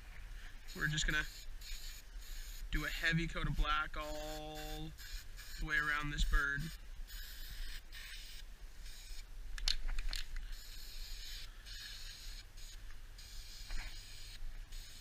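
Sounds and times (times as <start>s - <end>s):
spray paint can hissing: 0.7s - 2.9s, 4.0s - 9.2s, 10.2s - 15.0s.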